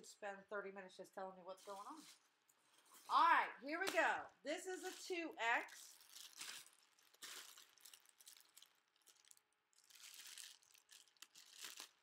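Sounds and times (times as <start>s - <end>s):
plastic garment bag crinkling: 1.6s - 12.0s.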